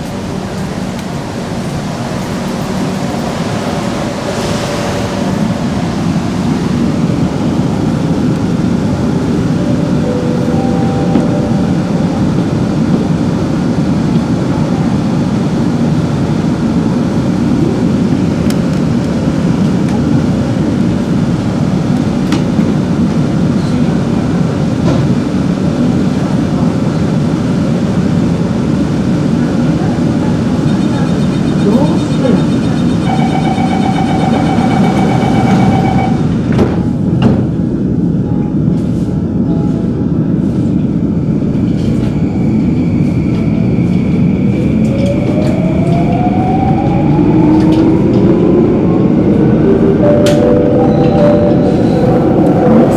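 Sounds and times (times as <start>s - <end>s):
train car humming and rumbling: 0.0s - 52.9s.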